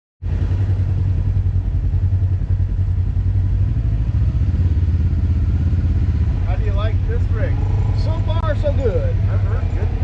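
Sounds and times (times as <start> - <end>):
vehicle engine running: 0.2 - 10.0.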